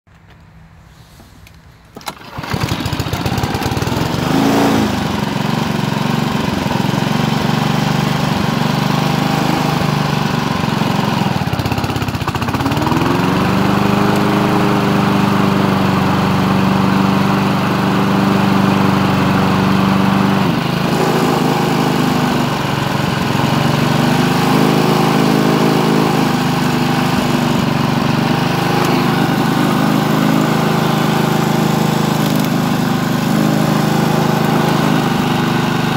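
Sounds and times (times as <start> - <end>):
lawn mower engine running: 1.8 - 35.9.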